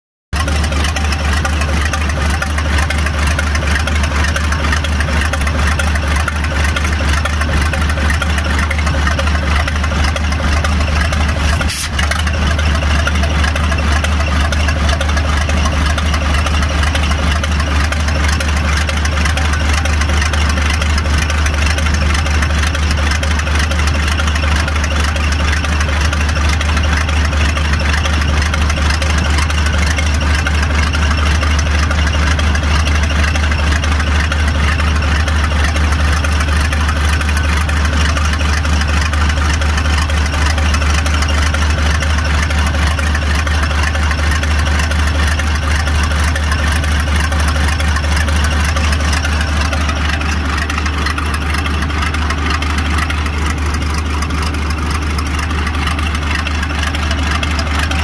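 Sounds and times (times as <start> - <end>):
diesel engine idling: 0.3 - 58.0.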